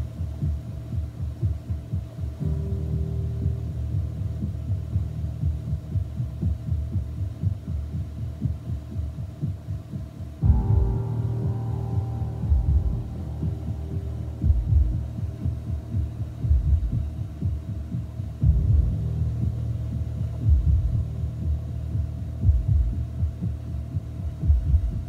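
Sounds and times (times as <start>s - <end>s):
low thumps and surges: 0.0s - 25.0s.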